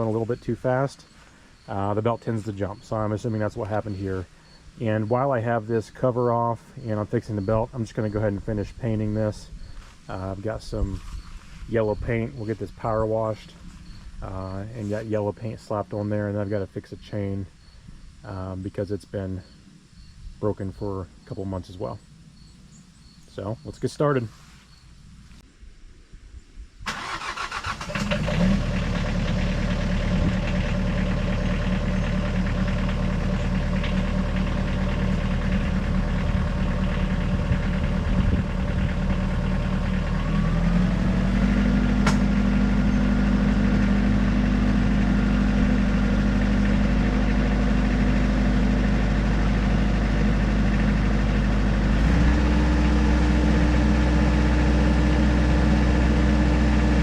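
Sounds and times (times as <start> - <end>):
engine running: 0.0 - 16.6, 26.9 - 57.0.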